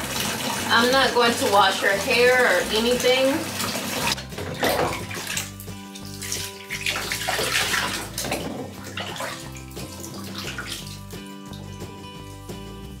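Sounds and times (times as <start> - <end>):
water pouring and splashing in tub: 0.0 - 13.0.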